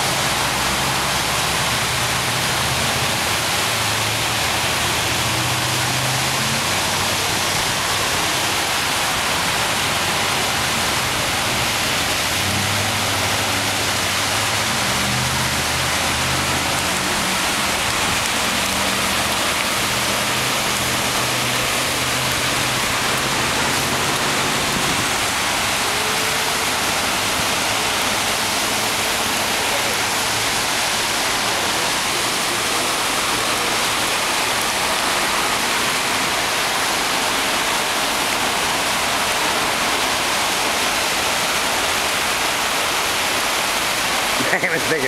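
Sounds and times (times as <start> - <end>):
heavy rain: 0.0 - 45.0
rushing floodwater: 0.0 - 45.0.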